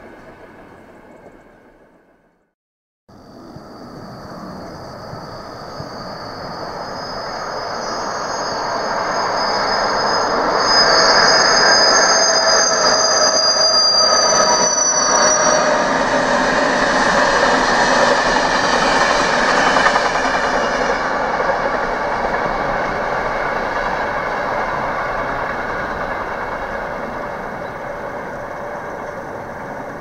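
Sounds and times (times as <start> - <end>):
passenger train passing: 0.0 - 2.3, 3.1 - 30.0.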